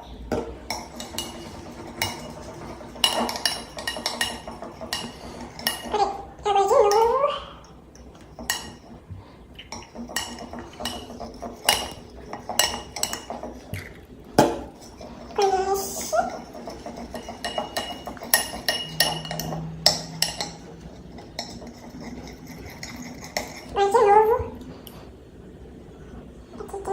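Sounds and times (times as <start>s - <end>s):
utensil scraping a bowl: 0.7s - 7.2s, 8.0s - 14.1s, 14.7s - 24.4s.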